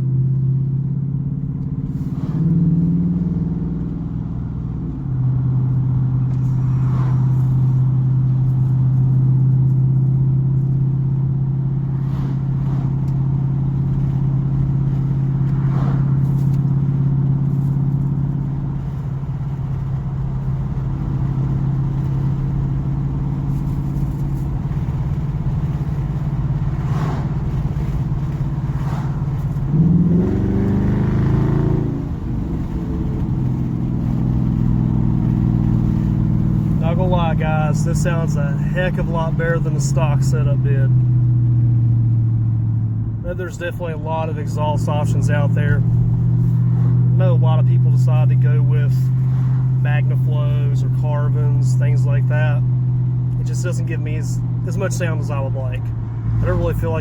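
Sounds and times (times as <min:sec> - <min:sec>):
car exhaust droning inside cabin: 0:00.0 - 0:57.0.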